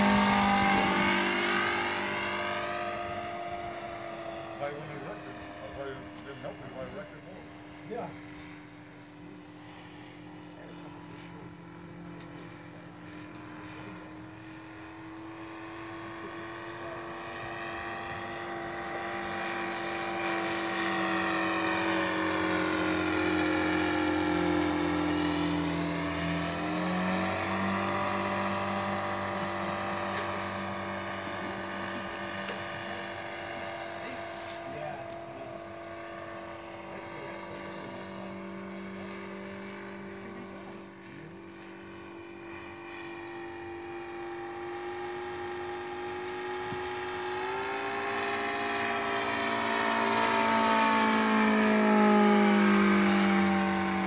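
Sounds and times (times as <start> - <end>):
model plane engine buzzing: 0.0 - 54.0.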